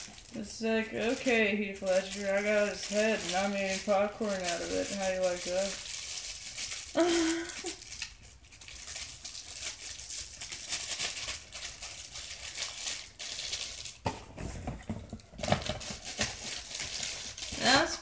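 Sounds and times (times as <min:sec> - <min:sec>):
paper and plastic rustling: 0:00.0 - 0:18.0.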